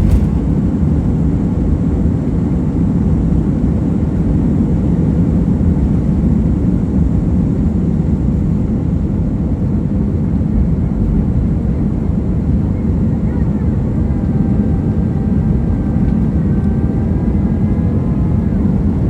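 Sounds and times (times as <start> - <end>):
airplane engines rumbling: 0.0 - 19.0.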